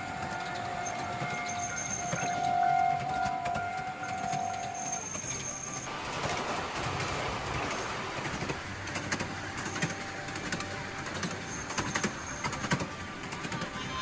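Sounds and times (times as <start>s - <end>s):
miniature train rumbling on track: 0.0s - 14.0s.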